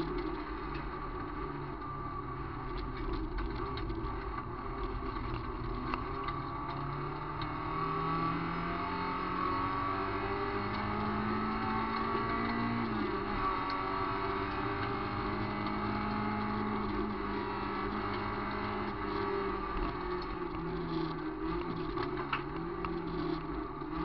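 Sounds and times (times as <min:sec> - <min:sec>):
rally car engine from inside cabin: 0:00.0 - 0:24.0.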